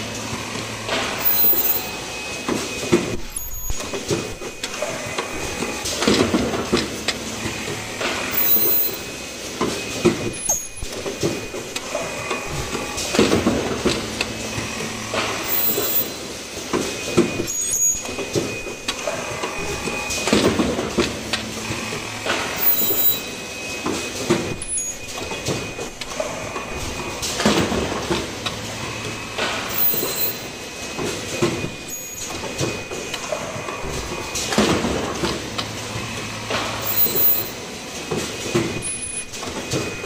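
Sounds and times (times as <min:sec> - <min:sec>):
conveyor mechanical clatter: 0:00.0 - 0:40.0
pneumatic clacks and air hisses: 0:00.0 - 0:40.0.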